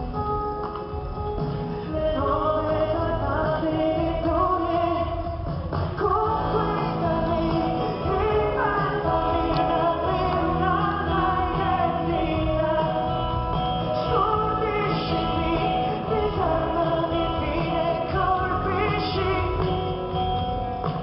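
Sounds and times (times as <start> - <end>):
live rock band playing: 0.0 - 21.0
woman singing: 1.8 - 21.0.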